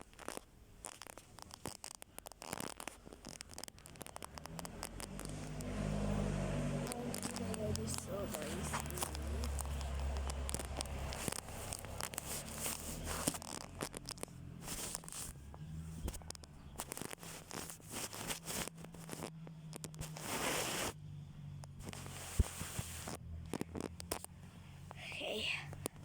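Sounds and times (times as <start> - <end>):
rustling and crackling: 0.0 - 26.0.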